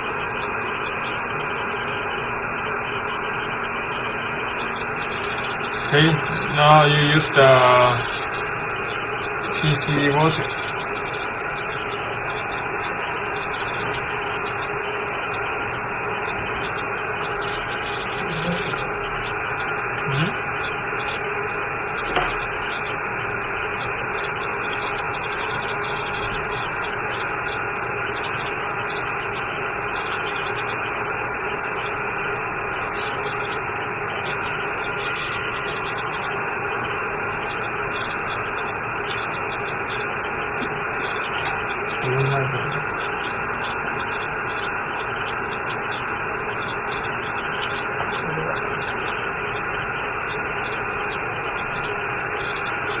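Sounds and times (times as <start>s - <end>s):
electric blower hissing: 0.0s - 51.3s
faint hum: 0.0s - 52.5s.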